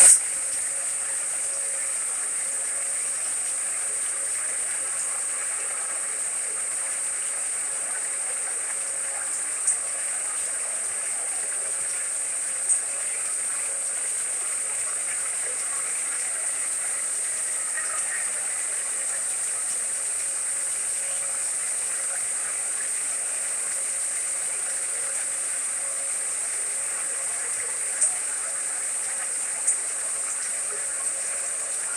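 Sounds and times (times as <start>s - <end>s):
white noise hiss: 0.0s - 31.9s
faint ticks: 2.9s - 31.9s.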